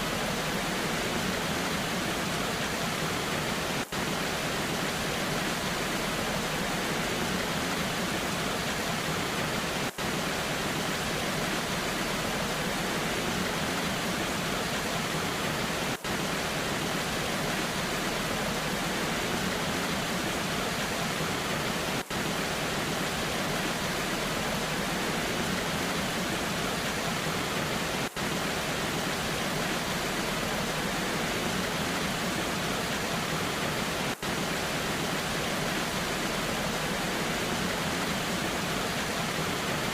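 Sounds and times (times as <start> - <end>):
rain: 0.0 - 39.9
waterfall rushing: 0.0 - 39.9.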